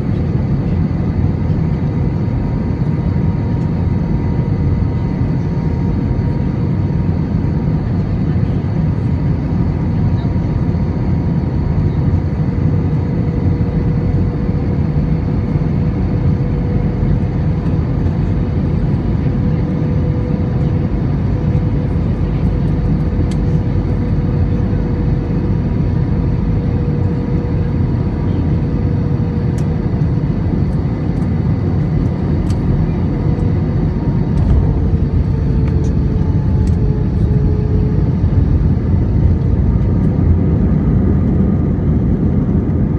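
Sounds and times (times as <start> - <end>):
aircraft cabin engine rumble: 0.0 - 42.9
engine whine: 0.0 - 42.9.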